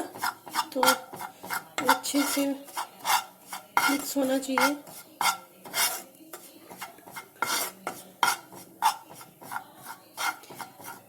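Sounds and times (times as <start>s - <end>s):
spoon scraping in a frying pan: 0.0s - 11.0s.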